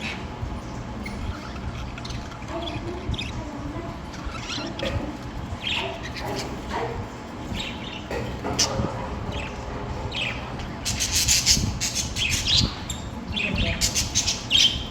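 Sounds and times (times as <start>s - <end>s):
budgerigars chirping: 0.0s - 14.9s.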